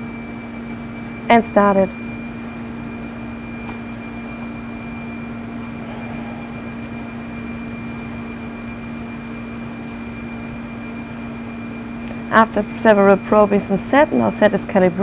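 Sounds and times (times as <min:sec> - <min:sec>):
machine hum with held tones: 0:00.0 - 0:15.0.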